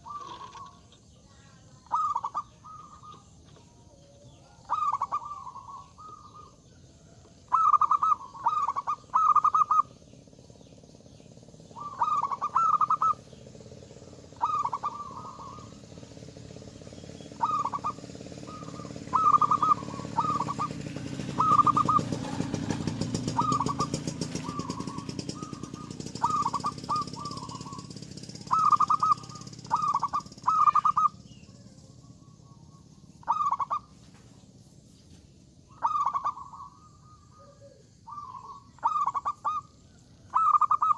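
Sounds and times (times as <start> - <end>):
dove cooing: 0.0 - 10.1, 11.6 - 13.4, 14.0 - 34.1, 35.7 - 40.9.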